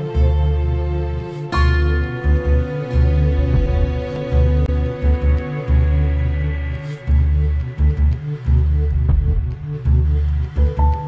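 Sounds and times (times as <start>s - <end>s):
held tones over deep bass: 1.9s - 11.0s.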